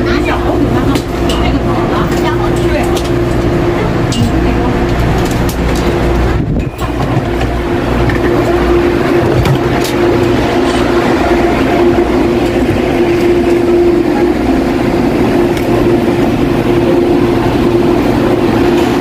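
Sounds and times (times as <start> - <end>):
constant hum: 0.0 - 19.0
train cabin rumble: 0.0 - 19.0.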